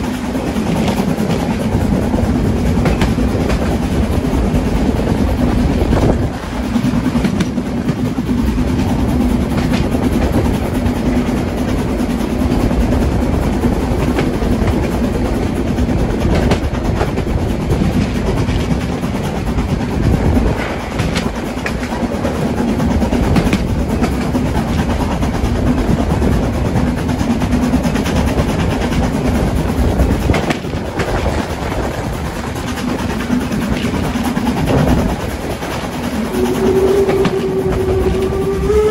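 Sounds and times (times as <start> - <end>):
steam train rumbling: 0.0 - 38.9
train wheels clacking over rail joints: 0.0 - 38.9.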